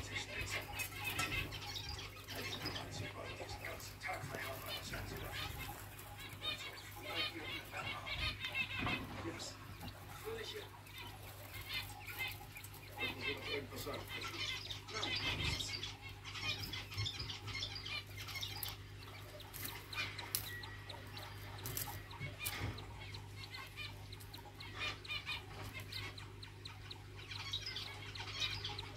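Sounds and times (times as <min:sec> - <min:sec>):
quail chirping: 0:00.0 - 0:28.9.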